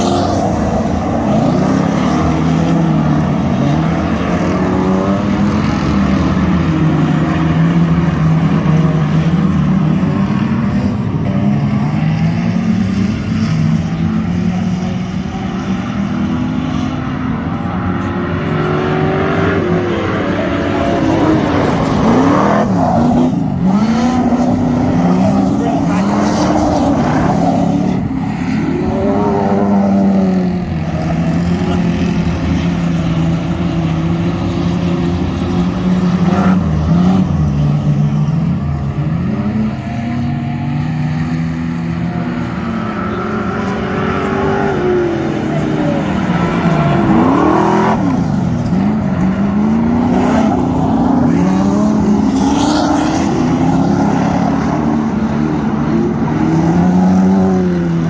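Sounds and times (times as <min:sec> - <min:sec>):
racing car engines: 0:00.0 - 0:58.0.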